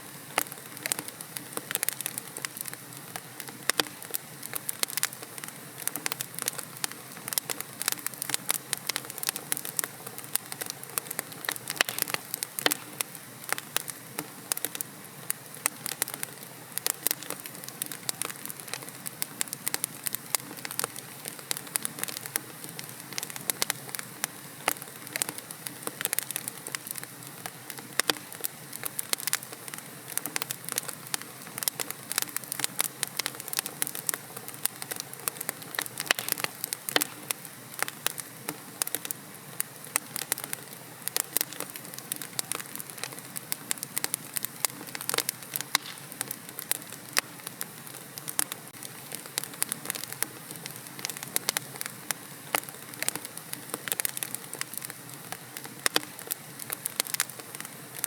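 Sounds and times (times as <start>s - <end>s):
fire crackling and popping: 0.0s - 58.0s
soft steady hiss: 0.0s - 58.0s.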